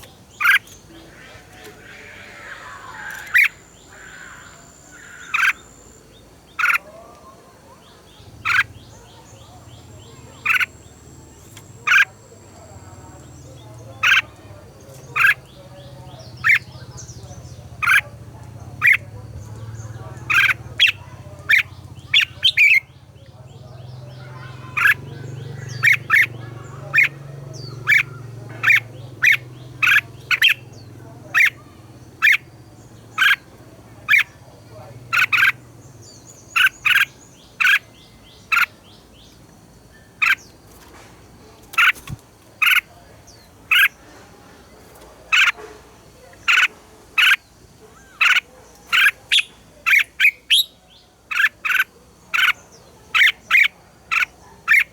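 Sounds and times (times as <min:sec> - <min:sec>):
birds singing bright phrases: 0:00.0 - 0:54.9.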